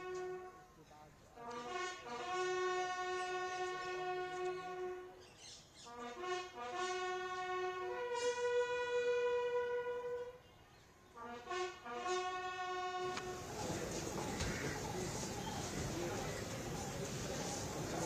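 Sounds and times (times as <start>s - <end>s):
bugle call played slowly: 0.0s - 0.8s, 1.4s - 5.2s, 5.9s - 10.4s, 11.2s - 18.0s.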